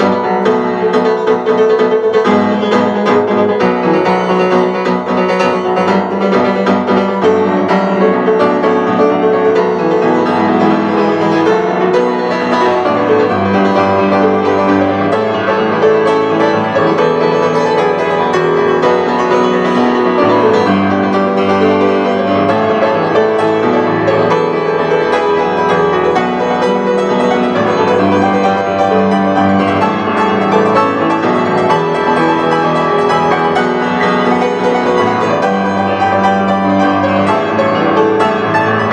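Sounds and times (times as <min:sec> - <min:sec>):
solo grand piano: 0:00.0 - 0:38.9.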